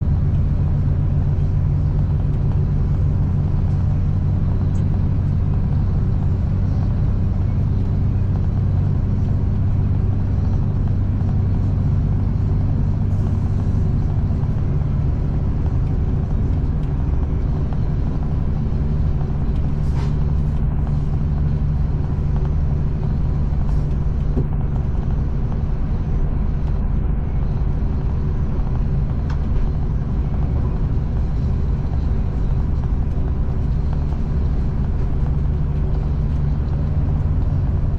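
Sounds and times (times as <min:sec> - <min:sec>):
deep engine hum: 0:00.0 - 0:37.9
train rumble inside carriage: 0:00.0 - 0:37.9.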